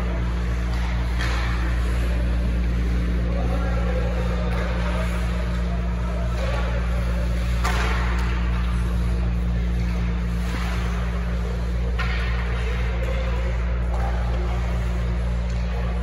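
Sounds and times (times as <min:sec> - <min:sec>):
low arena rumble and hum: 0:00.0 - 0:16.0
skates scraping ice: 0:00.0 - 0:16.0.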